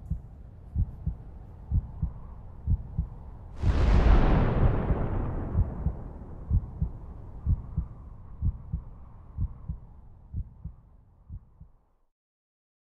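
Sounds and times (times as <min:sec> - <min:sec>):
heartbeat double thumps: 0:00.0 - 0:11.8.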